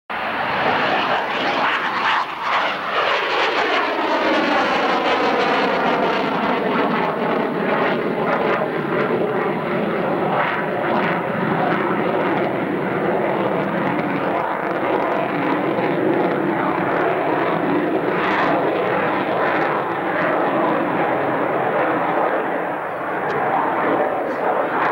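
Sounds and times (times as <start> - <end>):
jet fly-by: 0.1 - 24.9.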